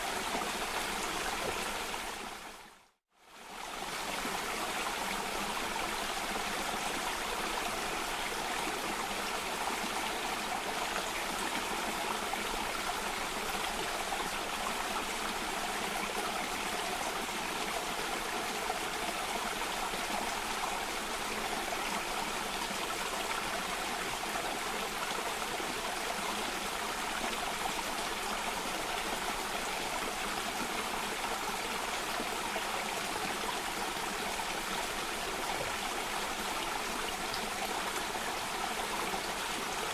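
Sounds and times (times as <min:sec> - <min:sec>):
stream water over cascades: 0:00.0 - 0:39.9.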